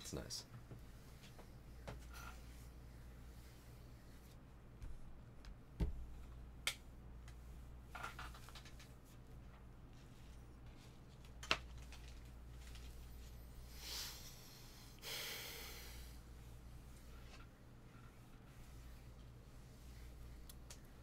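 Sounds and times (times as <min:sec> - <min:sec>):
steady low hum: 0:00.0 - 0:07.9, 0:08.5 - 0:21.0.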